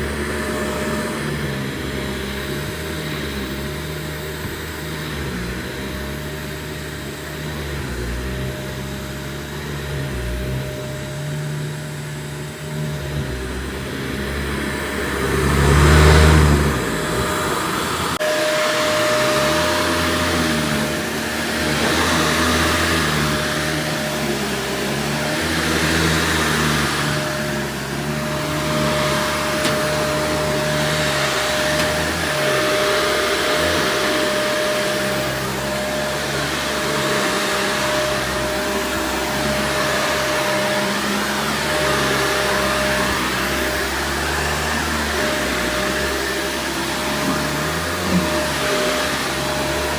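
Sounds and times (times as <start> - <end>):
steady whine: 0.0 - 49.9
vacuum cleaner running: 0.0 - 49.9.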